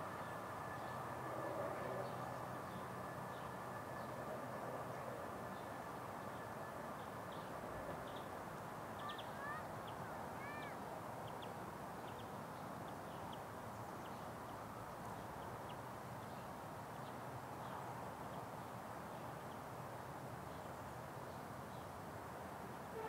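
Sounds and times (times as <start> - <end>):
outdoor background rush: 0.0 - 23.0.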